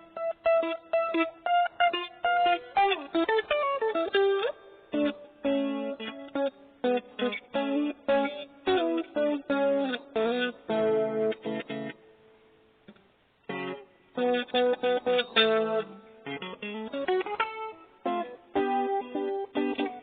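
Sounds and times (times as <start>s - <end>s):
guitar playing runs and chords: 0.0s - 20.0s.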